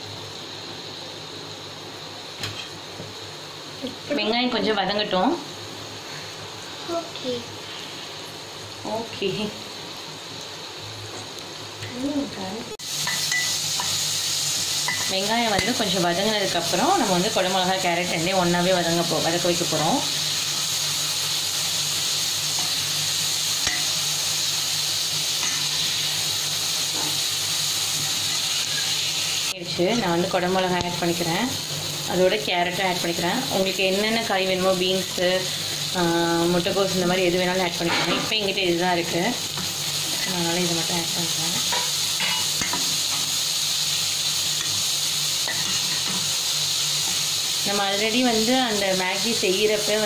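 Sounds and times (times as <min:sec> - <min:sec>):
onions sizzling in oil: 0:00.0 - 0:50.0.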